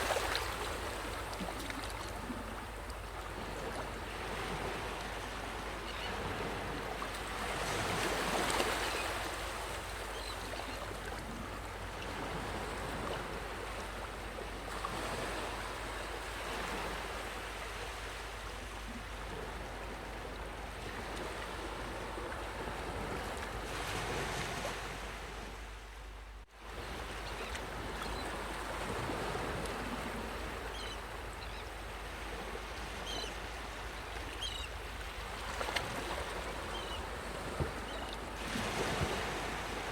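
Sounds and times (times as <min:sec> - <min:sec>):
ocean waves washing on beach: 0:00.0 - 0:26.0, 0:26.6 - 0:39.9.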